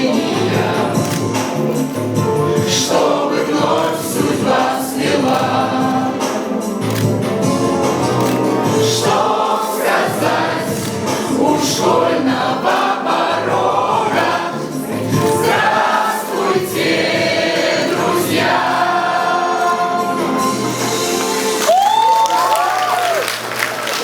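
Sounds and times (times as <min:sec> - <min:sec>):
choir singing: 0:00.0 - 0:21.7
musical backing track: 0:00.0 - 0:24.0.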